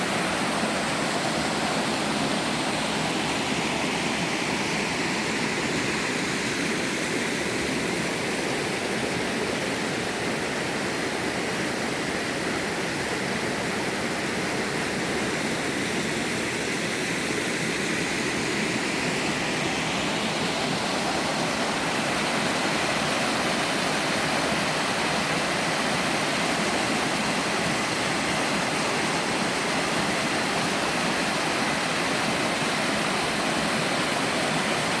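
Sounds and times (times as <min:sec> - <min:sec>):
waterfall cascading over rocks: 0:00.0 - 0:35.0.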